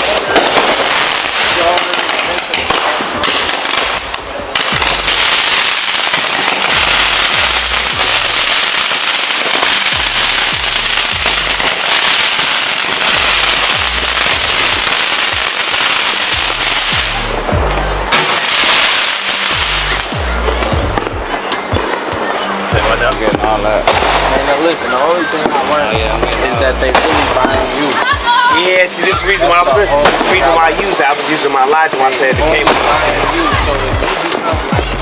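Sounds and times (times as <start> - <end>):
music with booming bass beat: 0.0 - 24.7, 25.3 - 28.5, 29.1 - 31.1, 32.2 - 35.0
crackling fireworks: 0.0 - 35.0.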